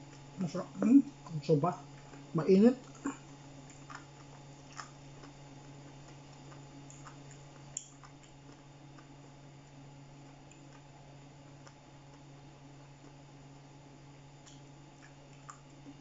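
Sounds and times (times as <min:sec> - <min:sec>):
steady low hum: 0:00.0 - 0:16.0
person chewing: 0:01.9 - 0:16.0.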